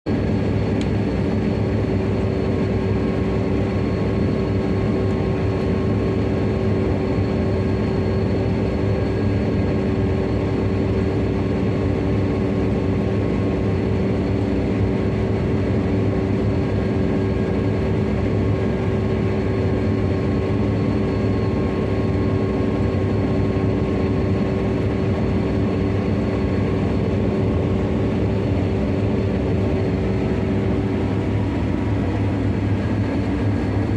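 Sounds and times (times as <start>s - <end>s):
combine harvester rumbling: 0.1s - 33.9s.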